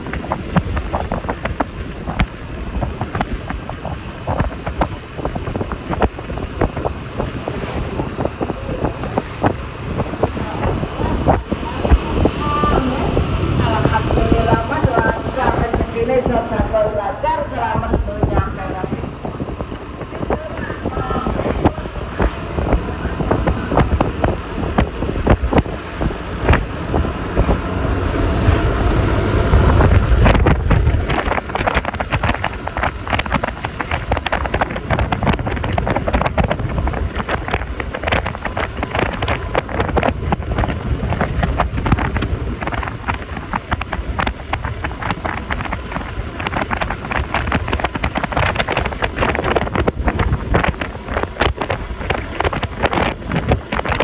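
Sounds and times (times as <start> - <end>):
low rumble: 0.0 - 54.0
road noise: 0.0 - 54.0
scooter engine running: 0.0 - 54.0
wind buffeting microphone: 0.0 - 54.0.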